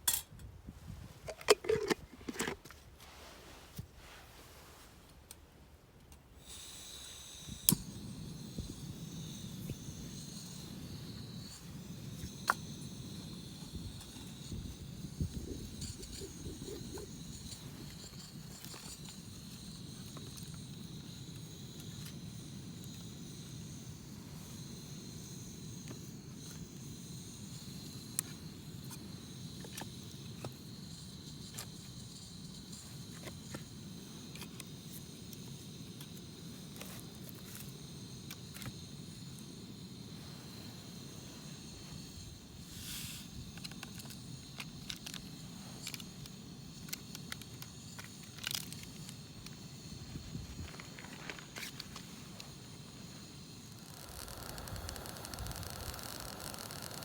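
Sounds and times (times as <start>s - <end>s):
insects chirping: 6.4s - 57.0s.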